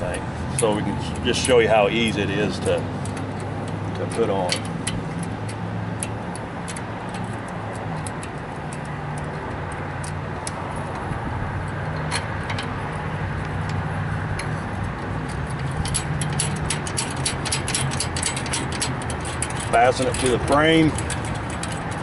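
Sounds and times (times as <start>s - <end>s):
light metallic clicks and taps: 0.0s - 22.0s.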